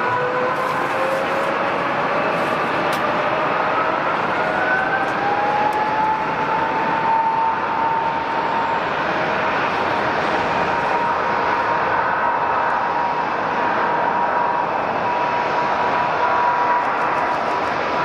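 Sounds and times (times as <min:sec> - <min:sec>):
jet engines rushing and whining: 0:00.0 - 0:18.0.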